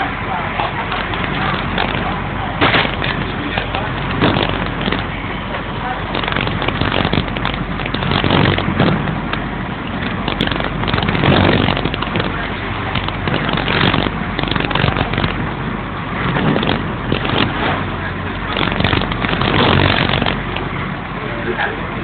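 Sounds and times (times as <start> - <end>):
wind buffeting microphone: 0.0 - 21.2
ferry engine droning: 0.0 - 22.0.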